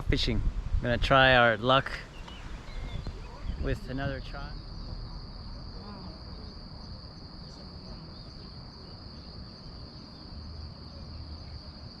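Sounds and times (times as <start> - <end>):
crickets chirring: 0.0 - 12.0
low background rumble: 0.0 - 12.0.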